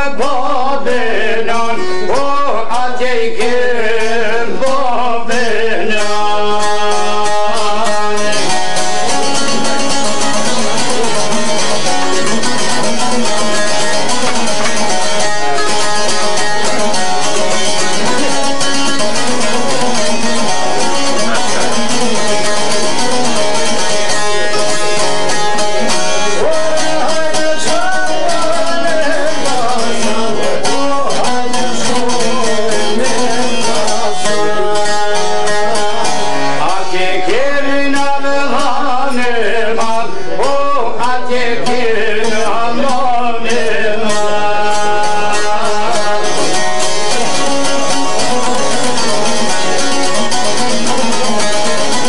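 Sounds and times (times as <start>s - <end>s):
person singing: 0.0s - 52.0s
plucked lutes playing folk music: 0.0s - 52.0s.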